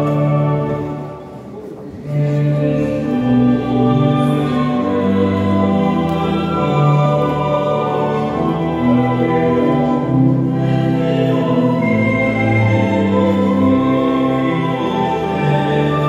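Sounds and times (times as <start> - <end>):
choir singing sacred music: 0.0 - 16.0.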